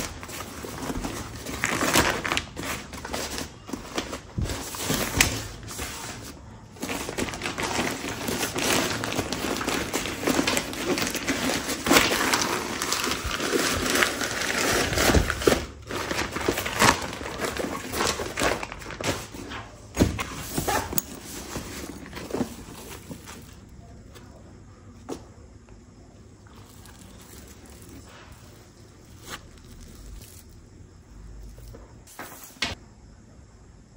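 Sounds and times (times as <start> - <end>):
packaging rustling and crinkling: 0.0 - 23.8, 26.5 - 30.6.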